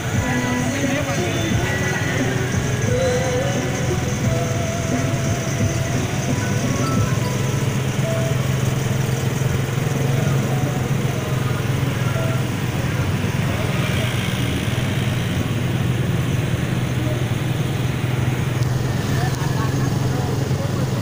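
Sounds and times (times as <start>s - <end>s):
motorcycle and vehicle engines droning: 0.0s - 21.0s
road noise: 0.0s - 21.0s.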